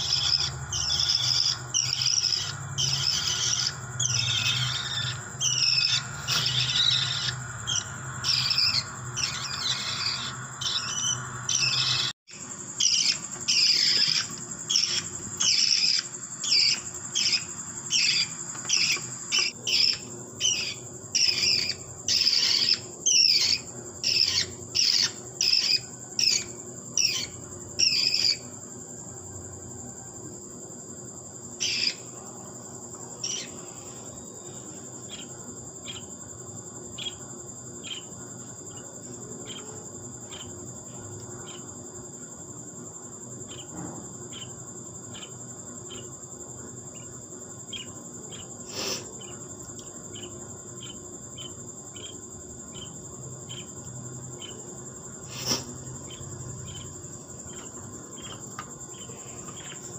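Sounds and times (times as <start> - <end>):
baby budgie chirping: 0.0 - 28.6, 31.6 - 32.1, 33.1 - 36.2, 36.8 - 42.3, 43.4 - 59.9.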